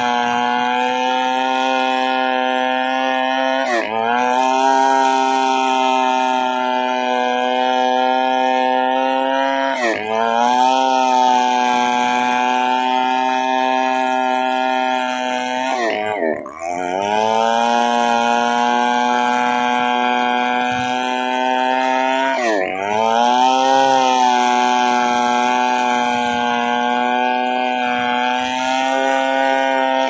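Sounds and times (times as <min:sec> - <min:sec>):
chainsaw engine running at high revs: 0:00.0 - 0:30.0.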